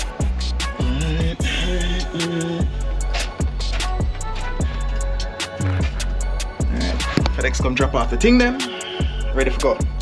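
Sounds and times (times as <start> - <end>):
music with deep bass and drums: 0.0 - 10.0.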